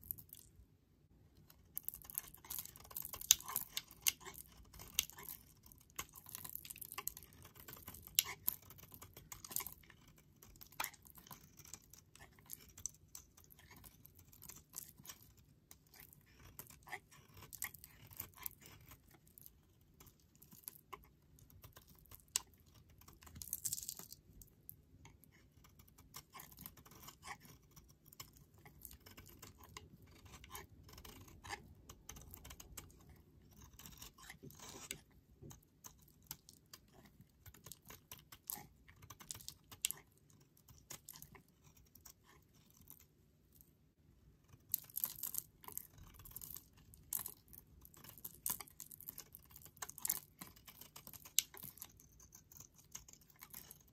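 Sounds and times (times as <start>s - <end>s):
knife scraping soap: 1.2s - 53.9s.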